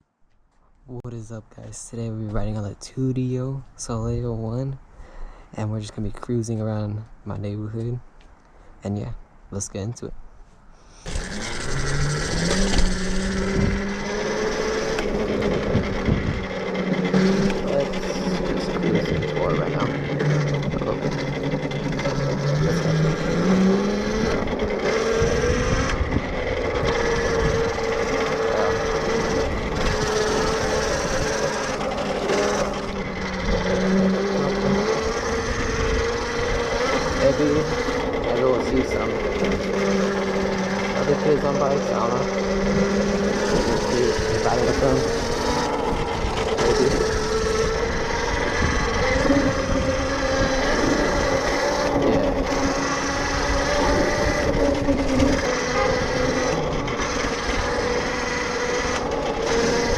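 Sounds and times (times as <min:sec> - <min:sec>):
electric motor whining: 0:10.9 - 0:59.9
steady rushing noise: 0:10.9 - 0:59.9.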